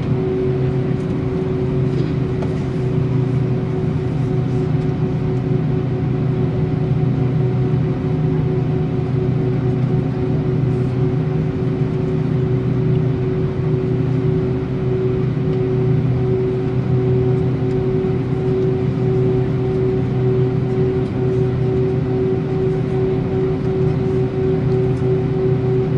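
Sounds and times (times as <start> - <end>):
aircraft cabin hum: 0.0 - 25.9.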